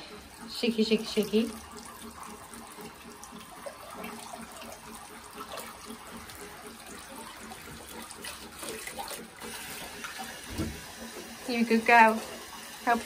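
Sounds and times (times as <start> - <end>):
shower water running over dog: 0.0 - 13.0
water splashing into bath: 0.0 - 13.0.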